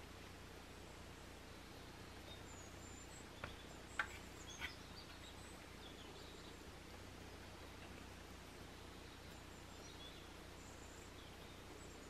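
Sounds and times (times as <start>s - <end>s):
faint bird chirps: 0.7s - 12.0s.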